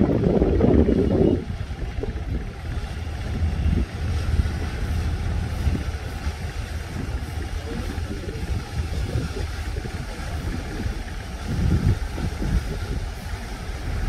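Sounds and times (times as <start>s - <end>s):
ferry engine rumble: 0.0s - 14.0s
water rushing along hull: 0.0s - 14.0s.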